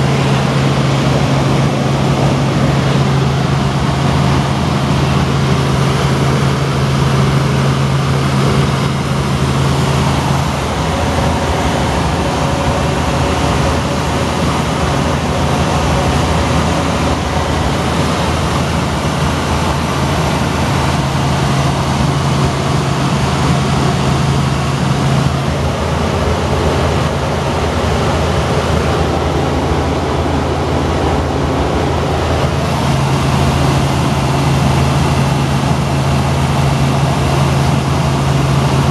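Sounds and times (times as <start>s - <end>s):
helicopter rotor and engine drone: 0.0s - 38.9s
low hum: 0.0s - 38.9s.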